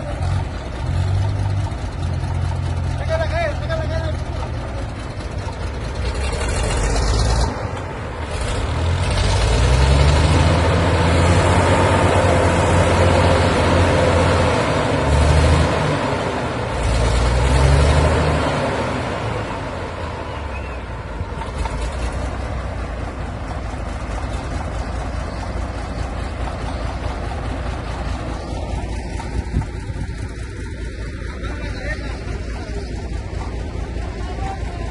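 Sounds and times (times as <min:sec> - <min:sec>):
tractor engine revving: 0:00.0 - 0:34.9.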